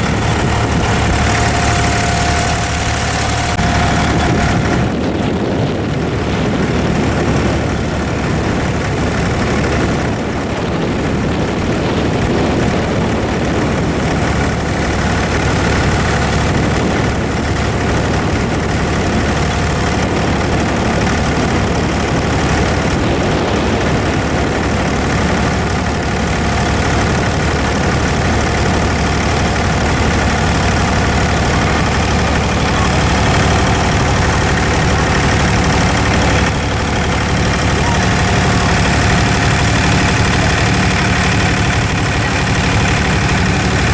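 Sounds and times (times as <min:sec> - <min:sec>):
boat engine rumbling: 0:00.0 - 0:43.9.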